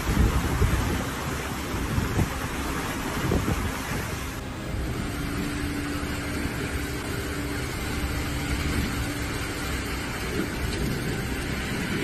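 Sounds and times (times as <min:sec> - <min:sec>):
heavy driving rain: 0:00.0 - 0:12.0
storm wind buffeting microphone: 0:00.0 - 0:12.0.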